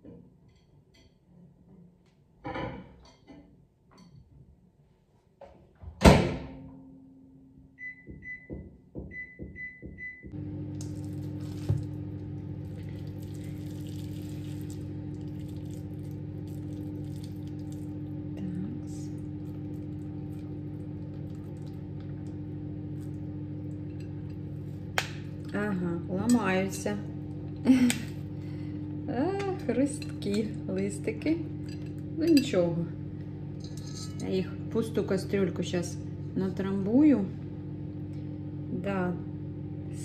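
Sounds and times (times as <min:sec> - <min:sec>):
microwave humming: 0:06.0 - 0:40.0.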